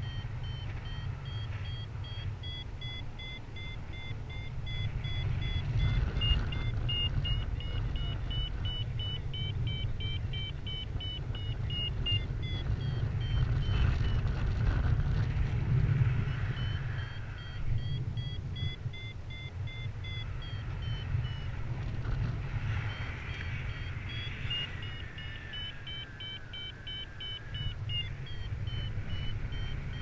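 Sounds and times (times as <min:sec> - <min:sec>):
variometer short beeps: 0:00.0 - 0:14.2, 0:16.3 - 0:21.5, 0:22.7 - 0:30.0
wind rushing over microphone: 0:00.0 - 0:30.0.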